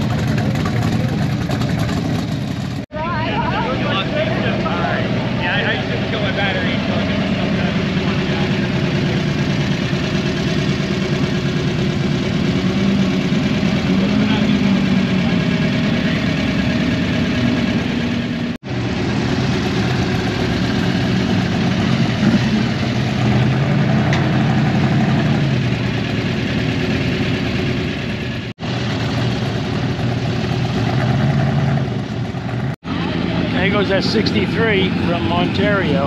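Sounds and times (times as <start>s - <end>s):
car engines idling loudly: 0.0s - 36.0s.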